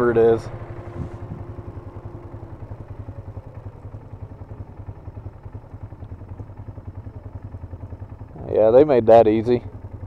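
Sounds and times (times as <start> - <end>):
atv engine running at low revs: 0.0 - 10.0.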